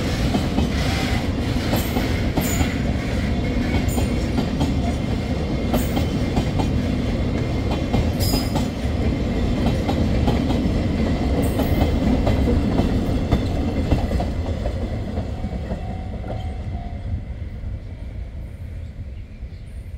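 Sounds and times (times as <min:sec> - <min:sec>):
train wagons rumbling past: 0:00.0 - 0:19.2.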